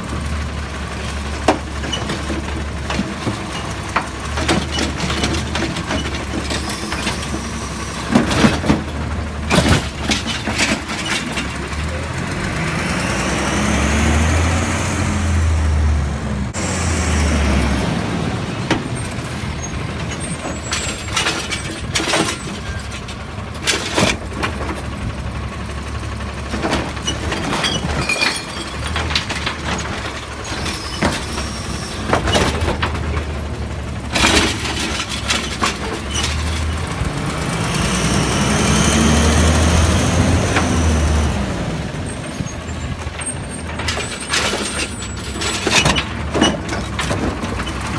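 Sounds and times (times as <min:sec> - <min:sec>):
clanks and knocks of cart: 0:00.0 - 0:14.3, 0:18.6 - 0:47.9
garbage truck engine revving: 0:00.0 - 0:47.9.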